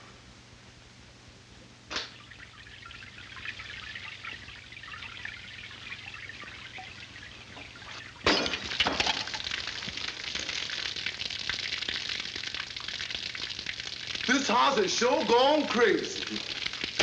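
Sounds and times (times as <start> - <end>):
faint crackling hiss: 0.1 - 17.0
water pouring into glass bowl: 2.1 - 17.0.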